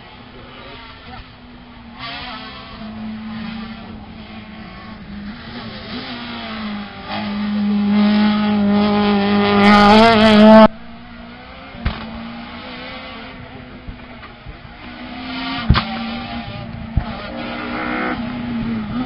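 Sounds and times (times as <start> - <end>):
distant car engine: 0.0 - 19.0
rally car engine at high revs: 0.0 - 19.0.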